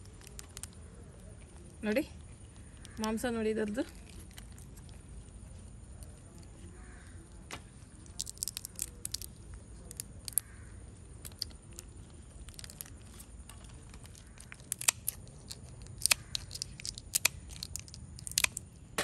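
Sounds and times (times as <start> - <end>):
prawn shell cracking by hand: 0.0 - 1.7, 3.9 - 19.0.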